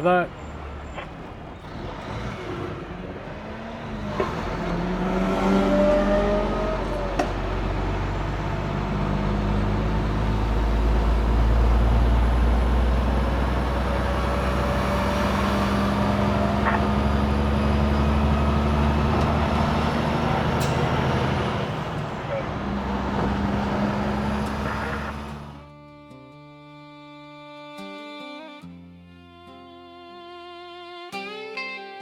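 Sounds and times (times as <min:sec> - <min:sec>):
tyre and road noise: 0:00.0 - 0:25.6
diesel truck engine running: 0:00.0 - 0:25.7.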